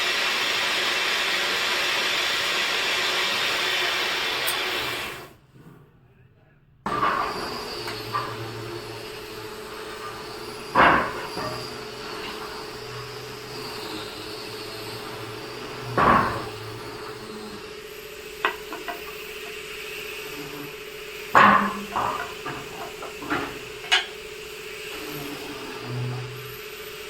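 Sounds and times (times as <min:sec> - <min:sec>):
woodworking machine hum: 0:00.0 - 0:05.4, 0:06.9 - 0:27.0.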